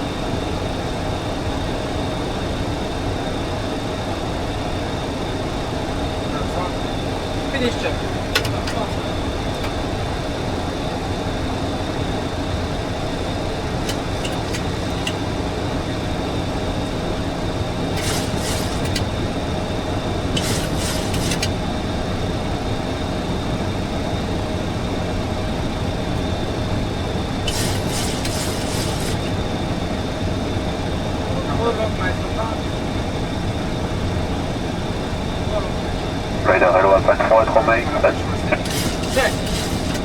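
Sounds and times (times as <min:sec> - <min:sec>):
airflow and engine drone: 0:00.0 - 0:40.0
faint constant whine: 0:00.0 - 0:40.0.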